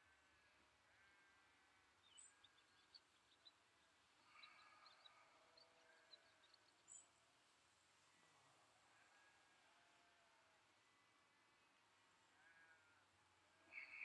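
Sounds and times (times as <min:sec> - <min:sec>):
faint birdsong chirps: 0:00.0 - 0:14.0.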